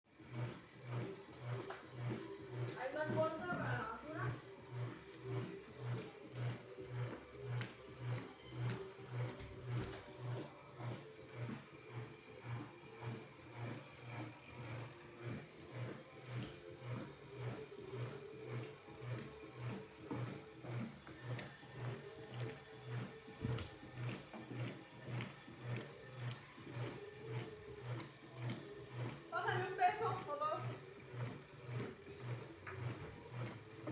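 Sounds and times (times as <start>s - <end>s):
washing machine agitating: 0.1s - 33.9s.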